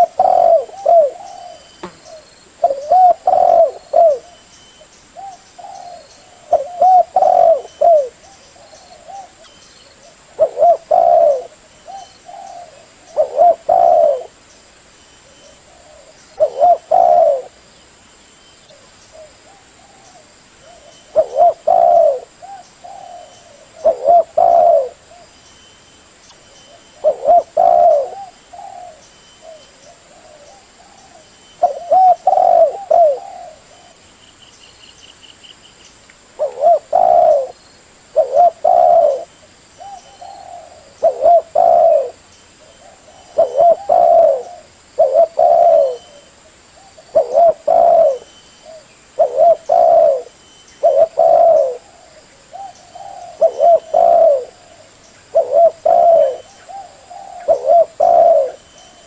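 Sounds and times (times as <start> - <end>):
dove cooing: 0.0 - 4.5, 5.2 - 14.4, 15.2 - 17.6, 18.7 - 25.3, 26.7 - 34.0, 36.4 - 59.0.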